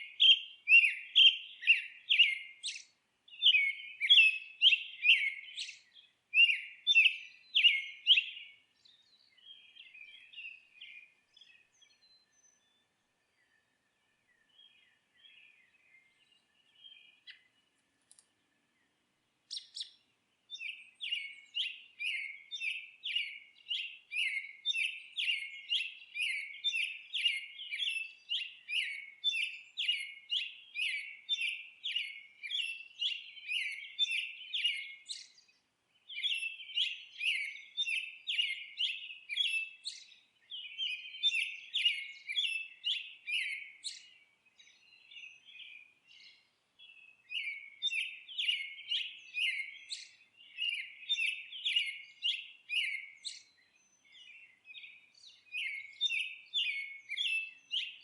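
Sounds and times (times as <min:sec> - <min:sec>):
faint bird calls: 0:00.0 - 0:58.0
songbird chirping song: 0:00.0 - 0:58.0.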